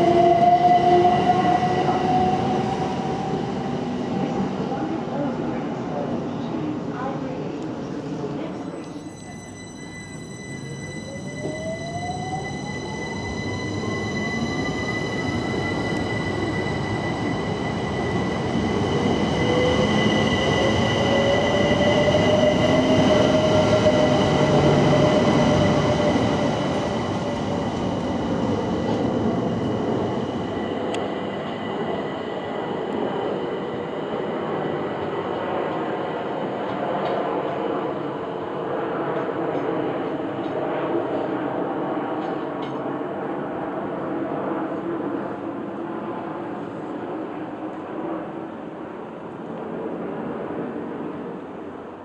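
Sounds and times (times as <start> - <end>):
second train rumbling: 0.0 - 52.0.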